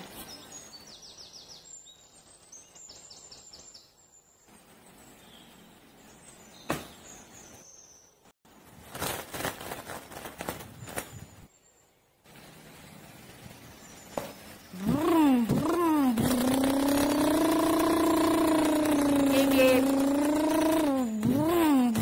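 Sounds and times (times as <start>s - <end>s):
birds chirping: 0.0s - 8.3s, 10.6s - 22.0s.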